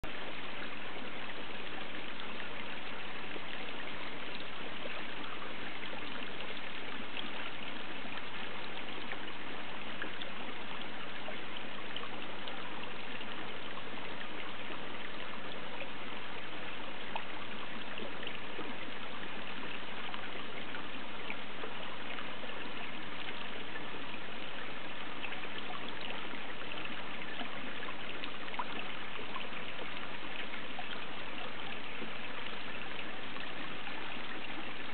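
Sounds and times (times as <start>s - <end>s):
water trickling into pond: 0.0s - 34.9s.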